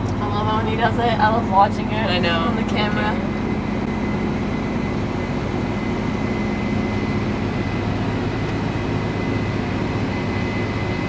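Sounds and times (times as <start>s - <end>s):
high steady whine: 0.0s - 11.0s
tractor engine hum: 0.0s - 11.0s.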